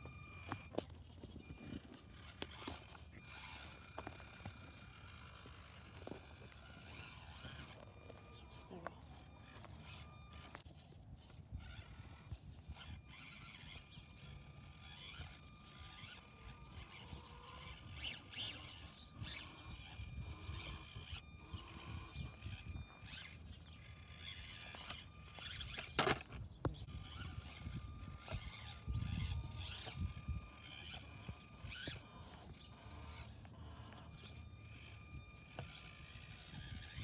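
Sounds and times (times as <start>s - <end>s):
small electric motor whining: 0.0s - 37.0s
tires scraping over rough ground: 0.0s - 37.0s.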